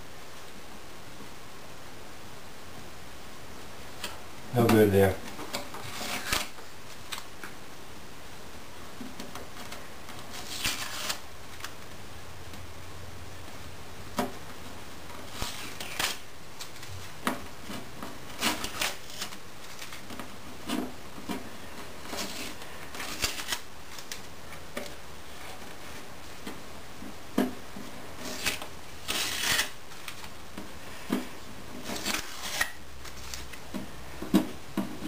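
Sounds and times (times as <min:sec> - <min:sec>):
masking tape crinkling and peeling: 0:03.9 - 0:07.6, 0:08.9 - 0:12.6, 0:14.2 - 0:35.0.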